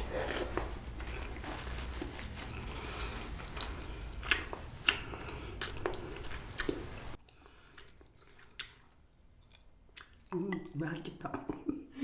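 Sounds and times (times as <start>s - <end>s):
person chewing noodles: 0.0s - 10.8s.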